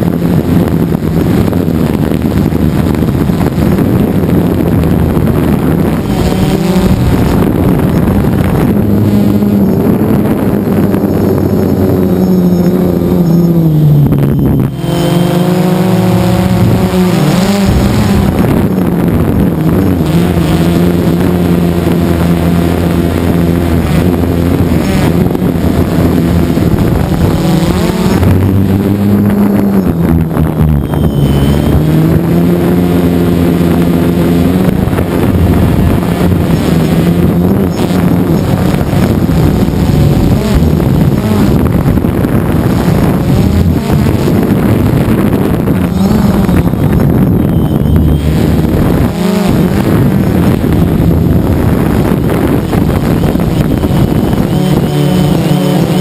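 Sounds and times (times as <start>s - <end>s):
drone propellers buzzing loudly: 0.0s - 56.0s.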